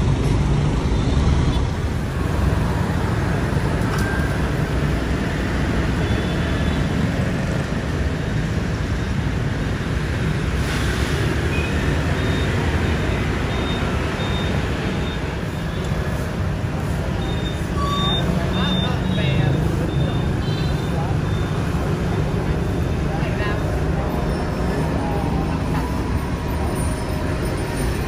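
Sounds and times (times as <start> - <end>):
bus engine rumbling: 0.0 - 28.0
motorbikes passing: 0.0 - 28.0.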